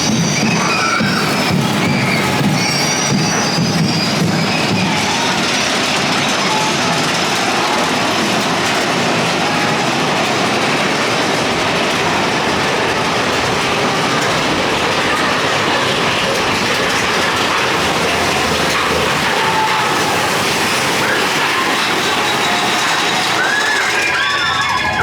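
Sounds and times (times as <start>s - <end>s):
roller coaster wheels rattling on rails: 0.0s - 25.0s.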